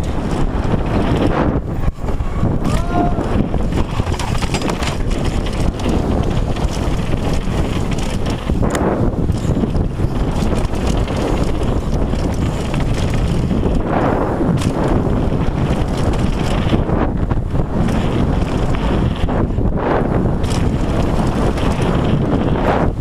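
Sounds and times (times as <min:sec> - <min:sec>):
bike tyres rumbling on dirt: 0:00.0 - 0:23.0
wind buffeting microphone: 0:00.0 - 0:23.0.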